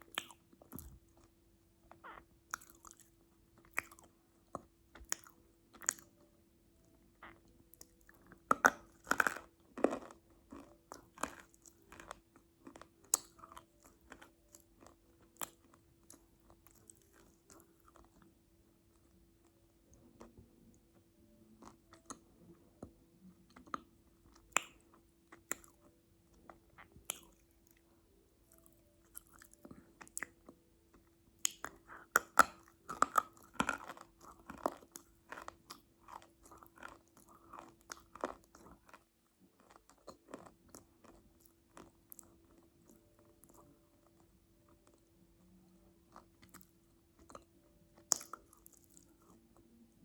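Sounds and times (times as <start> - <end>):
chewing crunchy food: 0.0 - 6.3, 7.2 - 50.0.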